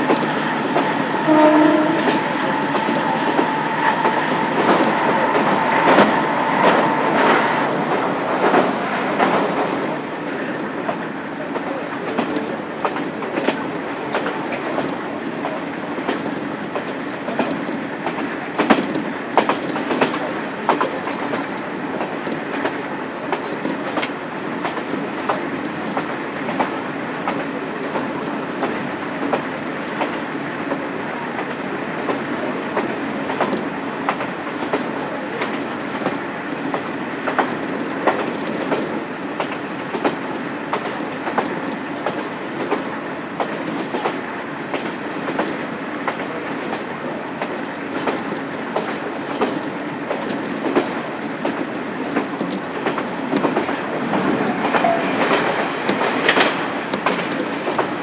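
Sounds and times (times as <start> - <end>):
wheels clacking over rail joints: 0.0 - 30.8, 31.4 - 58.0
railcar engine rumble: 0.0 - 58.0.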